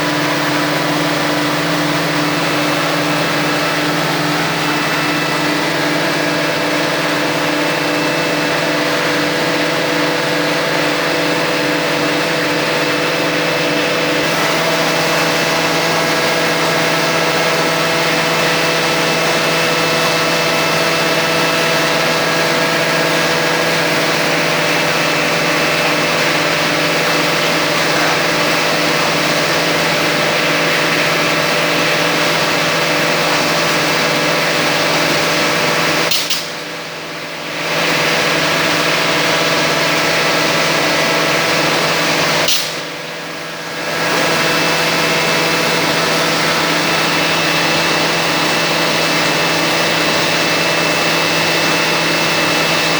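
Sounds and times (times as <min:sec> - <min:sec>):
lathe machine drone: 0:00.0 - 0:52.9.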